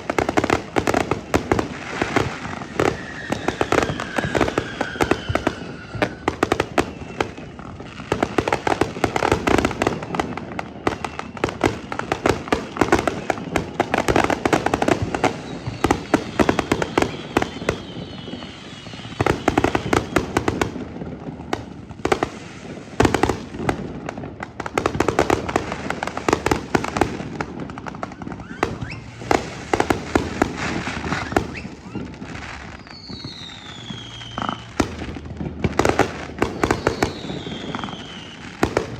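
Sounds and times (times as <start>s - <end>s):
falling firework whistles: 0.0s - 38.9s
fireworks bangs and crackling: 0.0s - 38.9s.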